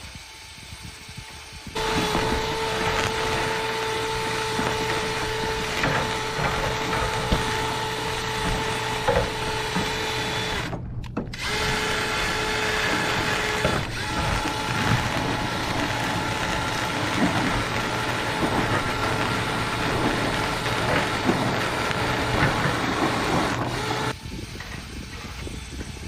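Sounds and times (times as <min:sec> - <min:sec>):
power drill spinning brush in duct: 0:00.0 - 0:26.0.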